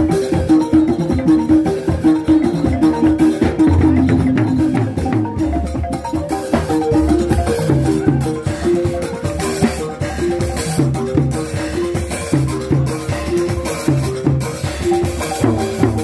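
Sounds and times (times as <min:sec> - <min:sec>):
drum kit with cymbal: 0:00.0 - 0:16.0
wooden xylophone melody: 0:00.0 - 0:16.0.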